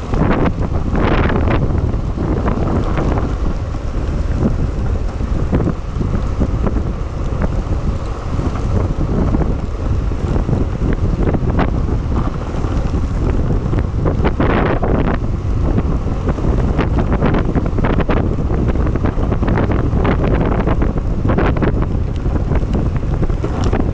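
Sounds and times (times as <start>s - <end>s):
sharp ticks from road: 0.0s - 15.2s, 16.2s - 23.9s
skateboard wheels rolling on asphalt: 0.0s - 23.9s
wind buffeting microphone: 0.0s - 23.9s.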